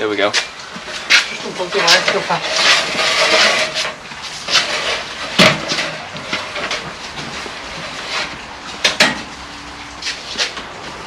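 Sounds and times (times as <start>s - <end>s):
debris clattering and scraping: 0.2s - 11.0s.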